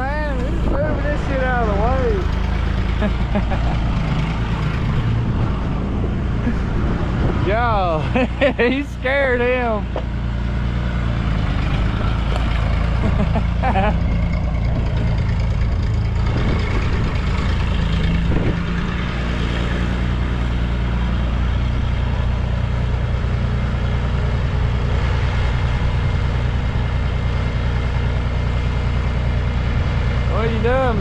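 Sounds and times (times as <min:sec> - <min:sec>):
vehicle engine droning: 0:00.0 - 0:31.0.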